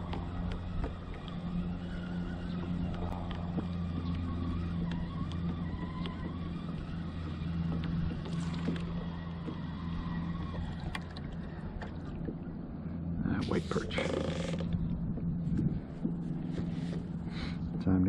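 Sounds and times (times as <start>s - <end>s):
electric motor hum: 0.0s - 17.8s
higher motor whine: 0.0s - 18.0s.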